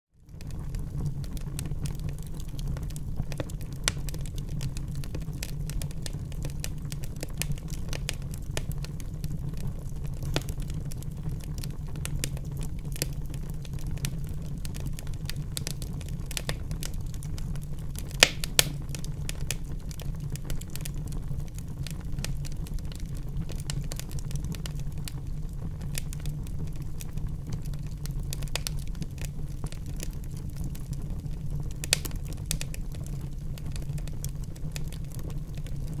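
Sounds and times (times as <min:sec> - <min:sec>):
low rumble of flames: 0:00.2 - 0:36.0.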